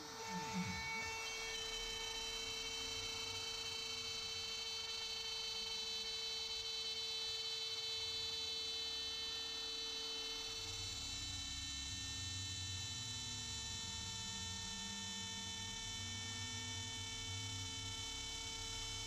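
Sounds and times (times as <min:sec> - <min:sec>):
router spindle high whine: 0:00.0 - 0:16.5.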